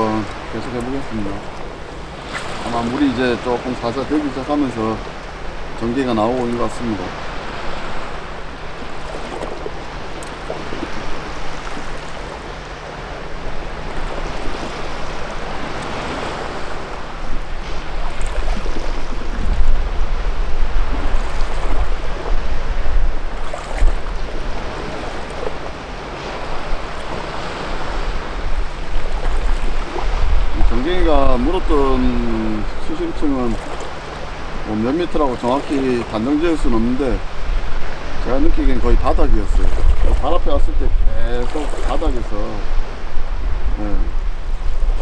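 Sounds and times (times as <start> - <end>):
sea waves on rocky shore: 0.0 - 45.0
wind rumbling on microphone: 0.0 - 45.0.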